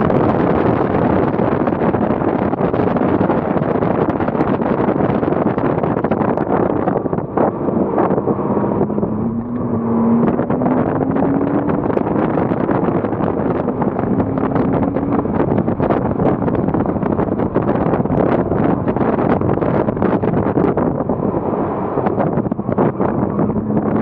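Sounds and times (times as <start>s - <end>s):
car engine accelerating: 0.0s - 24.0s
wind buffeting microphone: 0.0s - 24.0s.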